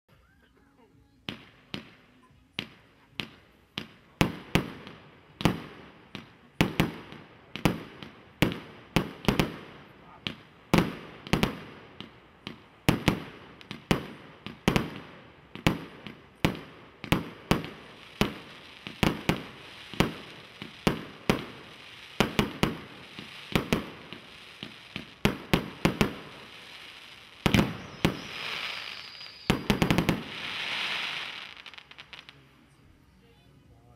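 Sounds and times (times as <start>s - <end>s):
firework bangs: 1.3s - 32.4s
firework hissing crackle: 1.3s - 32.7s.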